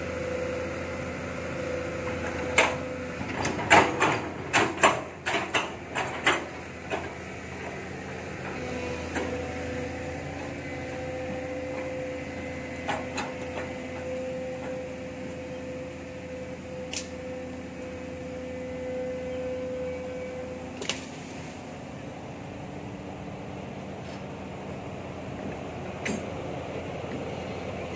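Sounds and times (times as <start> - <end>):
excavator whining: 0.0 - 27.9.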